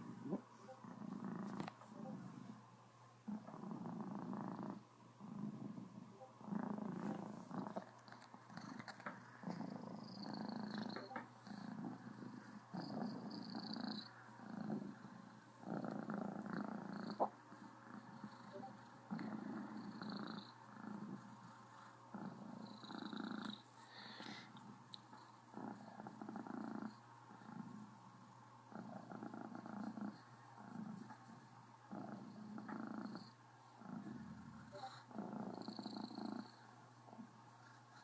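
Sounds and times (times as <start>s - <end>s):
cat purring loudly: 0.0s - 2.6s, 3.3s - 23.6s, 24.5s - 37.4s.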